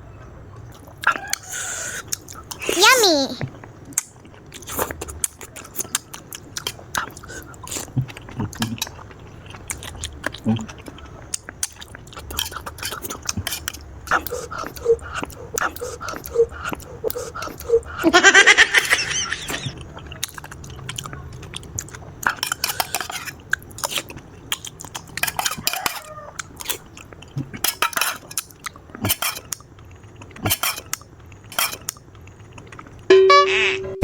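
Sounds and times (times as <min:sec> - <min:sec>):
chewing: 0:00.5 - 0:02.8, 0:03.4 - 0:18.1, 0:19.1 - 0:33.1.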